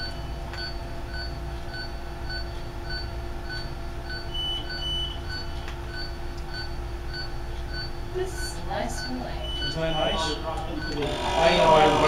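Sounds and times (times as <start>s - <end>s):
patient monitor short beeps: 0.0s - 11.1s
machine hum: 0.0s - 12.0s.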